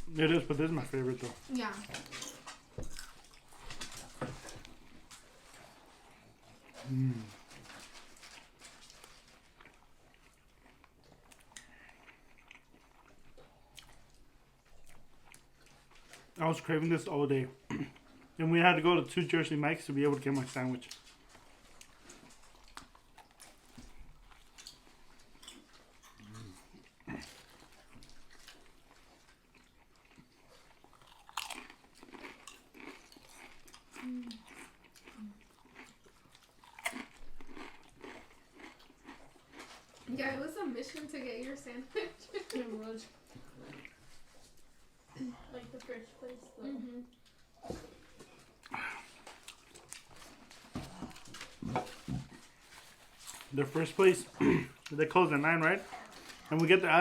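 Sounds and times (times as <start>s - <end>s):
chewing sandwich close-up: 0.0s - 41.2s, 42.4s - 57.0s.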